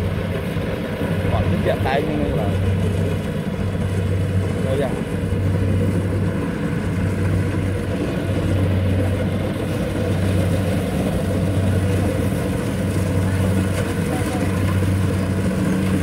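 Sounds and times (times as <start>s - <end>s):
combine harvester engine humming: 0.0s - 16.0s.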